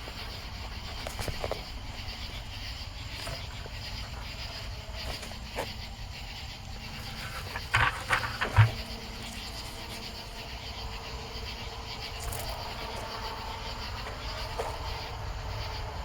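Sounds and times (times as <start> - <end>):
insect rapid pulses: 0.0 - 16.0.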